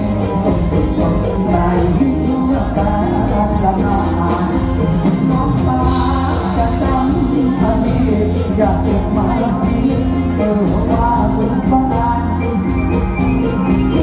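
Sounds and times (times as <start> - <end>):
live band music: 0.0 - 14.0
steady drum beat: 0.0 - 14.0.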